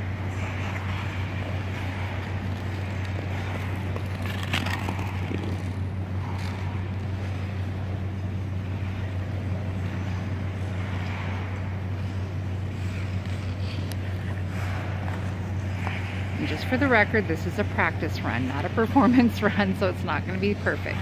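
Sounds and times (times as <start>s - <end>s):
ice rink hum and hiss: 0.0s - 21.0s.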